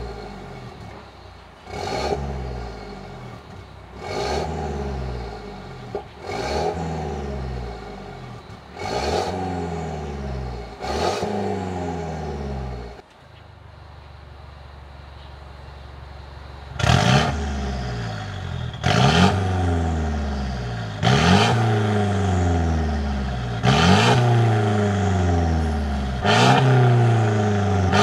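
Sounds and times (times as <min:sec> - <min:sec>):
car engine revving: 0:00.0 - 0:13.0, 0:16.7 - 0:28.0.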